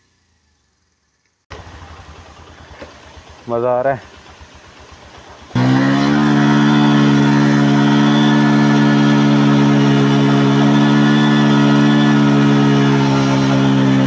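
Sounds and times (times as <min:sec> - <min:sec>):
motorcycle engine revving: 0:01.5 - 0:14.0.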